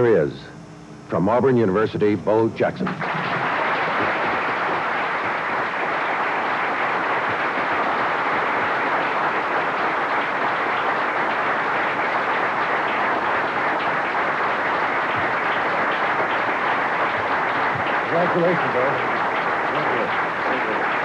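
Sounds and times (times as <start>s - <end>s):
audience applauding: 2.8s - 21.0s.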